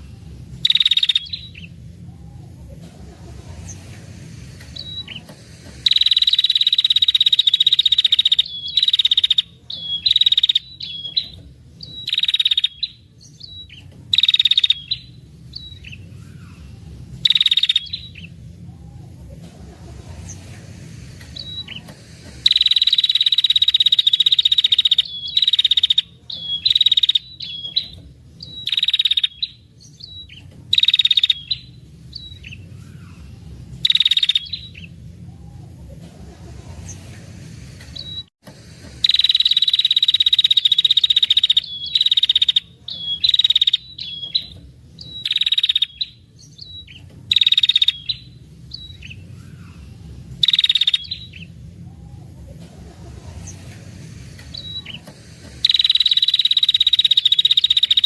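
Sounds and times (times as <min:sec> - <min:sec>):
bird giving buzzy trills: 0:00.0 - 0:58.0.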